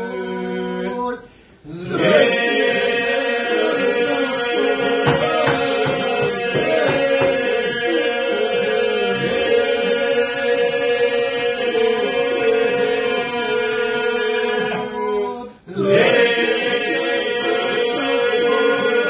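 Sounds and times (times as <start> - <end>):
held vocal drone: 0.0 - 19.0
men singing polyphonic song: 0.0 - 19.0.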